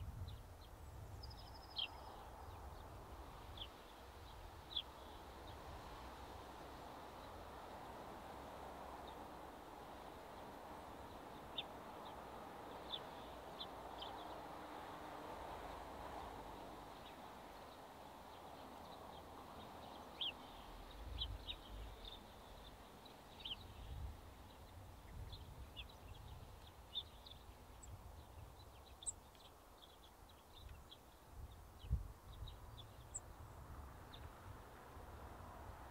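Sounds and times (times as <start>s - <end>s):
soft background hiss: 0.0s - 35.9s
songbirds chirping: 0.0s - 35.9s.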